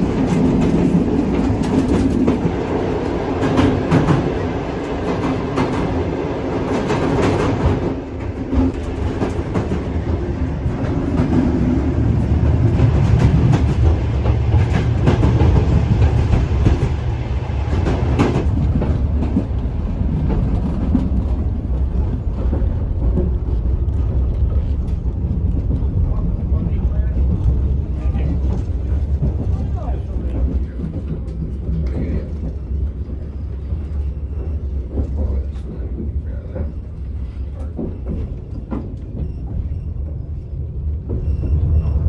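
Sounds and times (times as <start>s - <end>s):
wheels clacking over rail joints: 0.0s - 40.2s
train carriage rumble: 0.0s - 42.0s.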